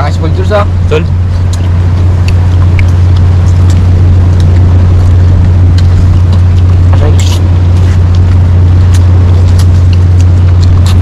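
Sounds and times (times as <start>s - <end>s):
loud low hum: 0.0s - 11.0s.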